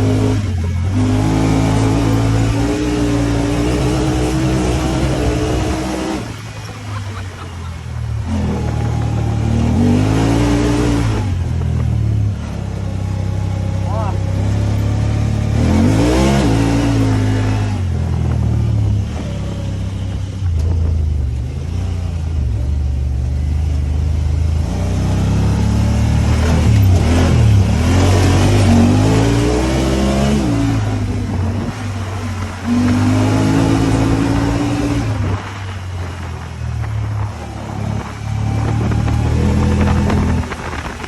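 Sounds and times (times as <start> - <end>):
engine revving: 0.0 - 41.0.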